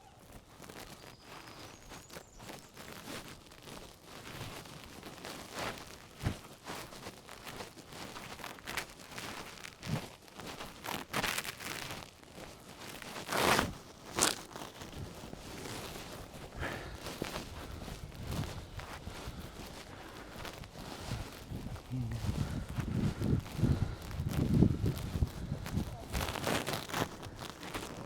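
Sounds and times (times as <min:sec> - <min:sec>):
footsteps crunching on trail: 0:00.0 - 0:28.0
rustling: 0:00.0 - 0:28.0.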